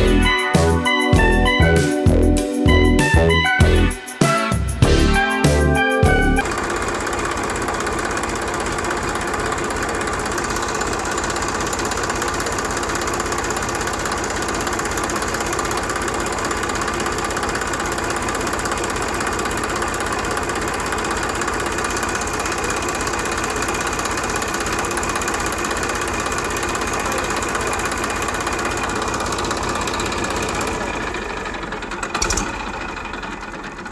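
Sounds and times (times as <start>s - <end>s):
small engine running: 6.4s - 33.9s.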